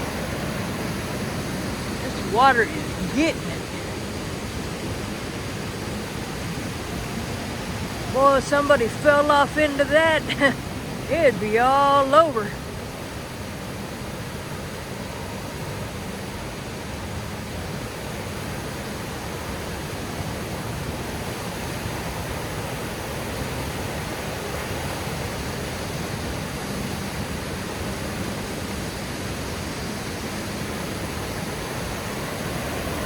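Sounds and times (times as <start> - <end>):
water churning over rocks: 0.0 - 33.0.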